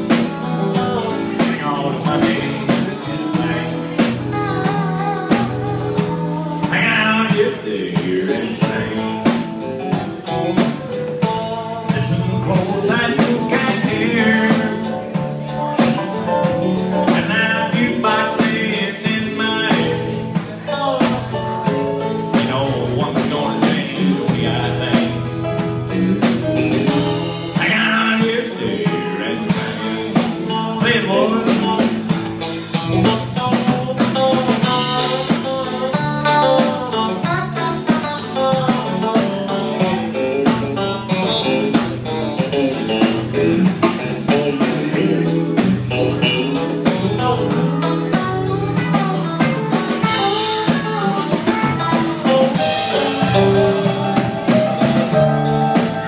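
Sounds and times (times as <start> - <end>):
live country band playing: 0.0 - 56.0.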